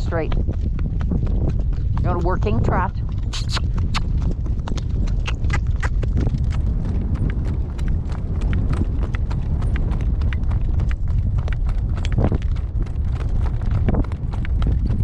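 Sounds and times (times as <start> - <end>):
horse hooves trotting on dirt: 0.0 - 15.0
low rumble: 0.0 - 15.0.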